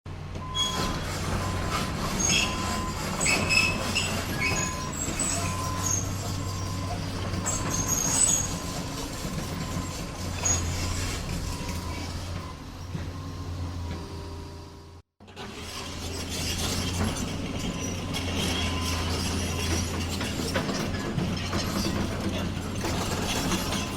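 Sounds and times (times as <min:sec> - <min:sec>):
diesel engine humming: 0:00.1 - 0:23.9
steel parts squeaking and clanking: 0:00.4 - 0:14.2, 0:15.3 - 0:23.9.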